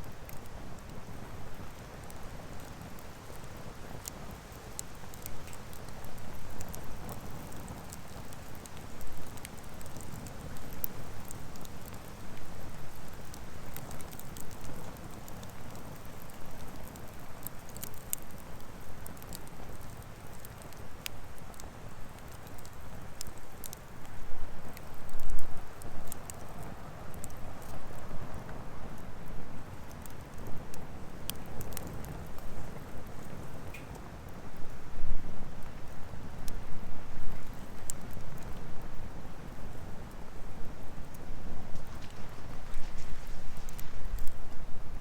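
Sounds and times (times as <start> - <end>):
wood fire crackling and popping: 0.0 - 45.0.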